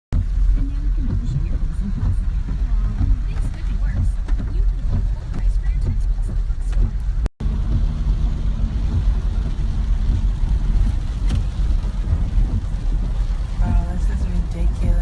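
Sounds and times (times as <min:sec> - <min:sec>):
vehicle engine running: 0:00.1 - 0:15.0.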